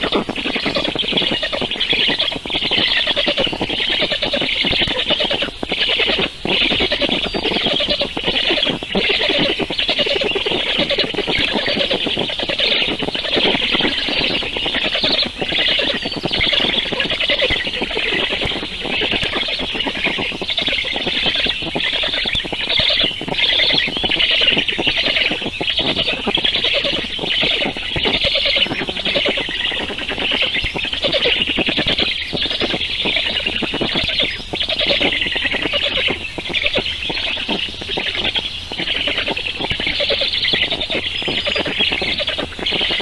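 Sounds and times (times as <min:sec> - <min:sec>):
baby birds begging calls: 0:00.0 - 0:43.0.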